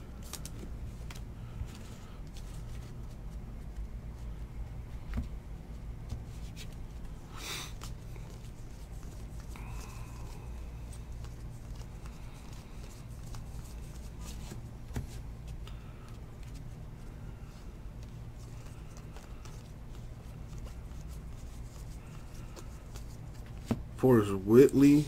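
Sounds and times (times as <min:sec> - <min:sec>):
cards being flipped through: 0:00.2 - 0:04.4, 0:06.0 - 0:16.8, 0:17.9 - 0:23.9.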